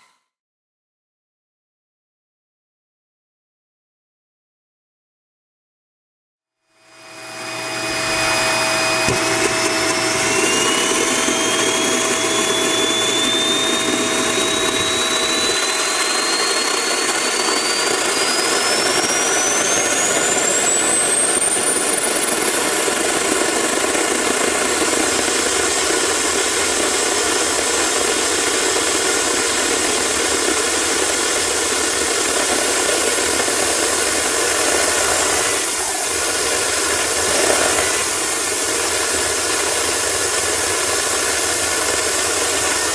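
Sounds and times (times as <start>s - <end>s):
jet engine whine rising: 6.7s - 42.9s.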